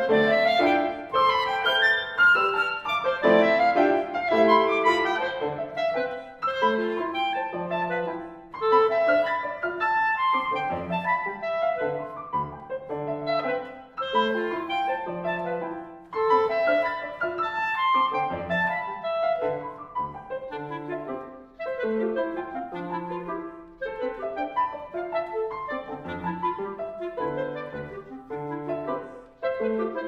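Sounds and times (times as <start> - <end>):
clarinet: 0.0 - 30.0
piano: 0.0 - 30.0.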